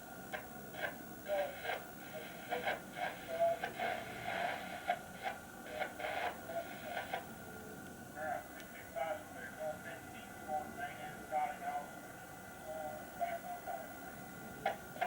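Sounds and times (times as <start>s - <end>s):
faint radio audio: 0.0s - 15.0s.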